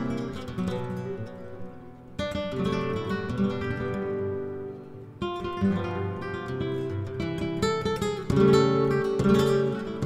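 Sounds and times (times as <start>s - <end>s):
flamenco guitar: 0.0s - 10.0s.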